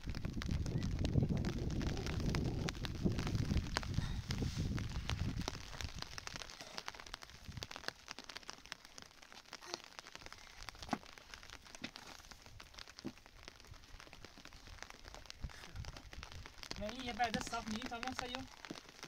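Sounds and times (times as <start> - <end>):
raindrops pattering: 0.0 - 19.0.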